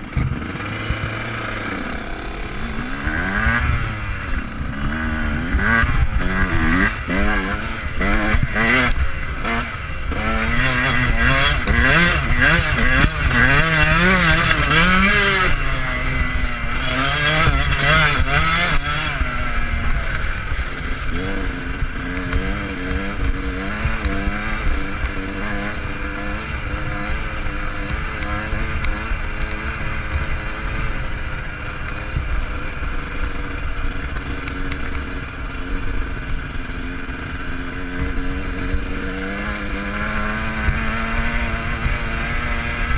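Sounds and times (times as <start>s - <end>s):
motocross engine revving: 0.0s - 42.9s.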